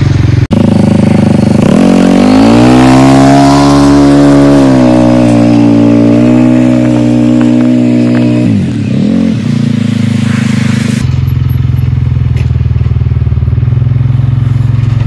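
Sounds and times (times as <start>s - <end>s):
atv engine running hard: 0.0s - 15.0s.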